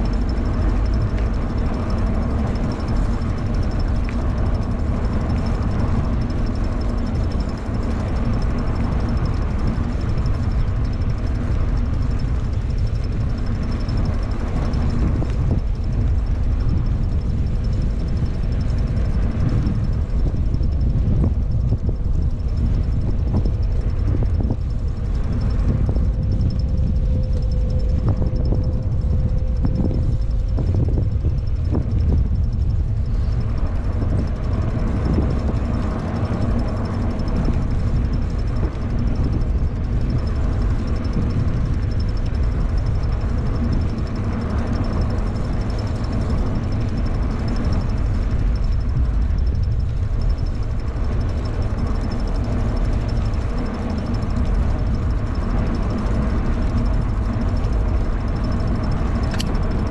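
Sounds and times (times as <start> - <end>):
bike rolling on pavement: 0.0 - 59.9
wind buffeting microphone: 0.0 - 59.9.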